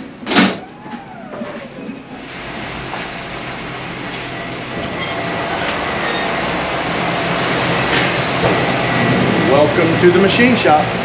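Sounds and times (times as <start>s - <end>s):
machine shop din: 0.0s - 11.0s.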